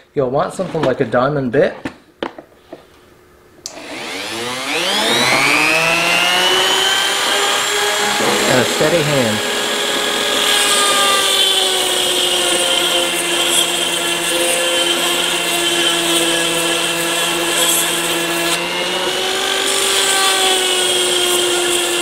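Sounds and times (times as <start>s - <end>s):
rotary tool grinding steel: 3.8s - 22.0s.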